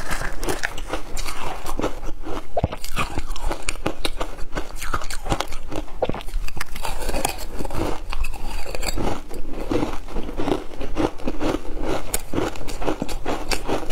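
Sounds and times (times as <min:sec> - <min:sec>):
person chewing crunchy ice: 0:00.0 - 0:13.9.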